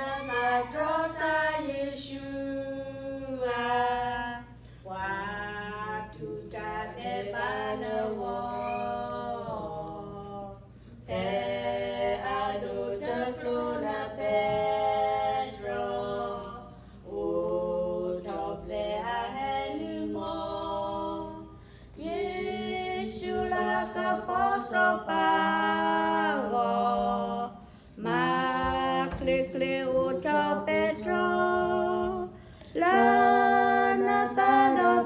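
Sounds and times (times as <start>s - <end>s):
women singing a hymn: 0.0s - 35.0s.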